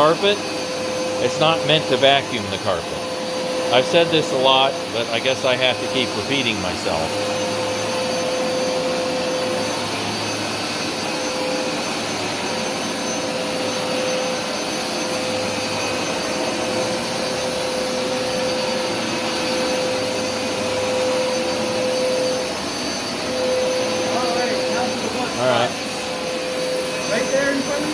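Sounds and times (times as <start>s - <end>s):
carpet washer motor roaring: 0.0s - 27.9s
motor whine: 0.0s - 27.9s.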